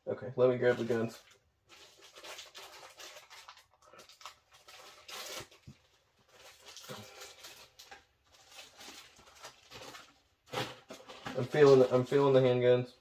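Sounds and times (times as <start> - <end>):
plastic parts rustling and clicking: 0.7 - 12.3.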